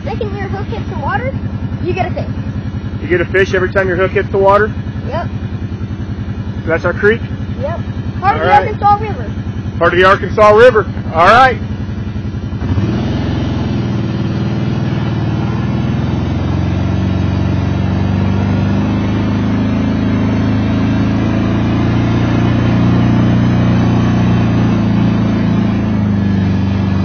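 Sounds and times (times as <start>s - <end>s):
atv engine droning: 0.0s - 27.0s.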